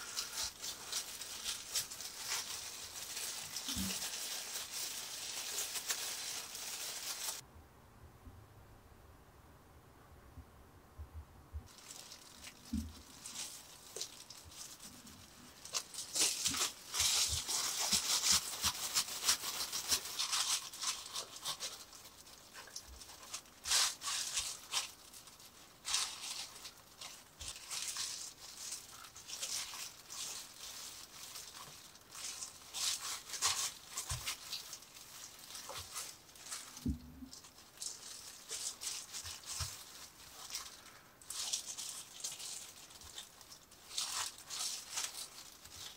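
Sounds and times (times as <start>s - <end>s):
plastic gloves crinkling: 0.0s - 7.4s, 11.6s - 45.9s.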